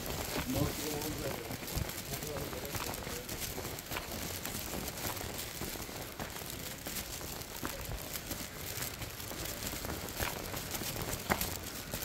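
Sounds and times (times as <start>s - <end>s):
footsteps on stone: 0.0s - 12.0s
steady outdoor hiss: 0.0s - 12.0s.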